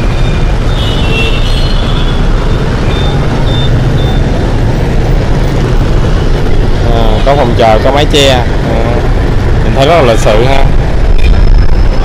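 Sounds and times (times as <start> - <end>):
buses running: 0.0 - 12.0
city traffic noise: 0.0 - 12.0
motorbikes: 0.0 - 12.0.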